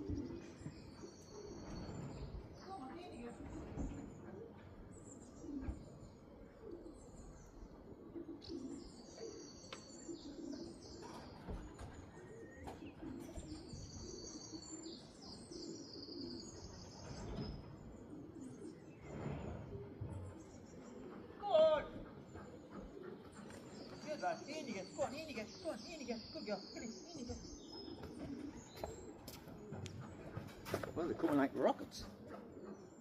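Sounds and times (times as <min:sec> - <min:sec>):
birds chirping quickly: 0:00.0 - 0:33.0
pigeons cooing: 0:00.0 - 0:33.0.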